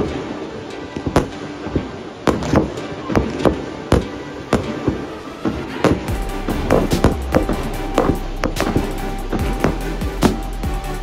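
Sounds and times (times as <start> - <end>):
fireworks bangs: 0.0 - 10.6
music: 0.0 - 11.0.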